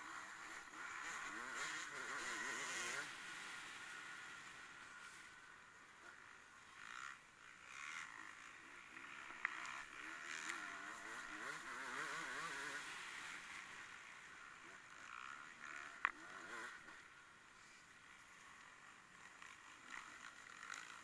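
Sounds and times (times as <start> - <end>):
faint vehicle engine running: 0.0 - 21.0.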